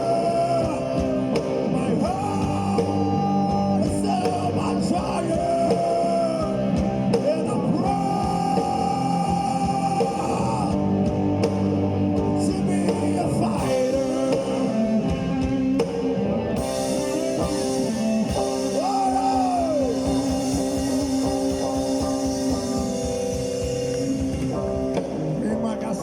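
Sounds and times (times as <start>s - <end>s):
punk rock band playing: 0.0s - 26.0s.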